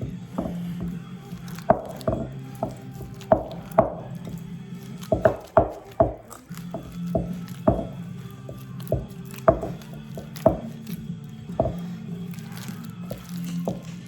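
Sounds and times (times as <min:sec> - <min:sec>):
wet slaps of mixing in bowl: 0:00.0 - 0:14.0.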